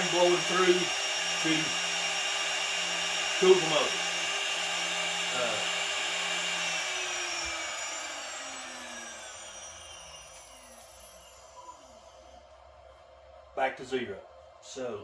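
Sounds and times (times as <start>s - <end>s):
motor cooling fan: 0.0s - 12.6s
router spindle whine: 0.0s - 12.7s.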